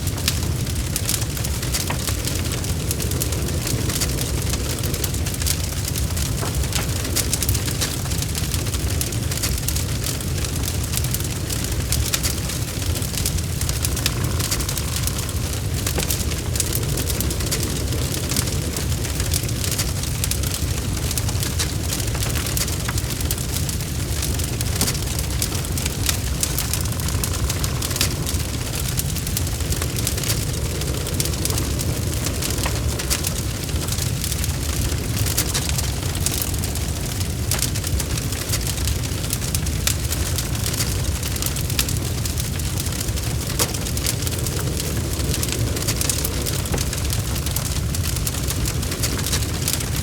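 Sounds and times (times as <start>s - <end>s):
burning wood crackling: 0.0s - 50.0s
log fire rumble: 0.0s - 50.0s.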